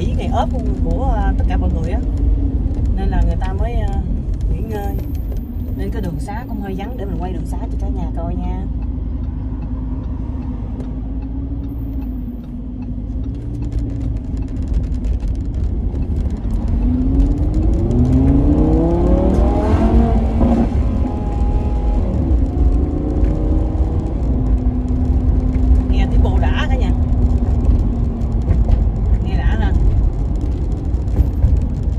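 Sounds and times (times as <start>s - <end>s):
car engine accelerating: 0.0s - 31.9s
low road rumble: 0.0s - 31.9s.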